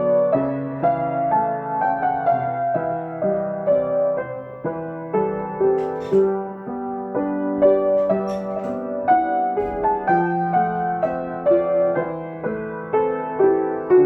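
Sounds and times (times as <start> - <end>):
gentle piano chords and melody: 0.0 - 14.0.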